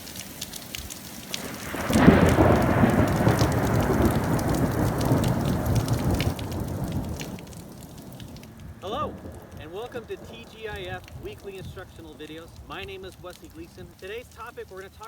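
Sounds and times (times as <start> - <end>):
steady rain falling: 0.0 - 15.0
rolling thunder: 1.3 - 13.9.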